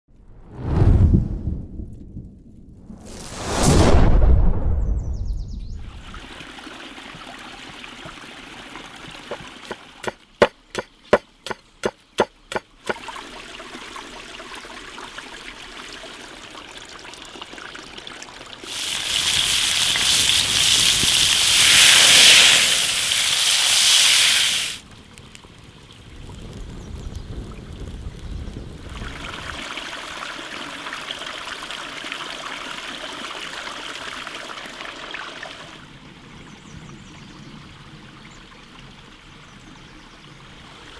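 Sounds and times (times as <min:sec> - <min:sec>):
stream running water: 0:05.8 - 0:40.9.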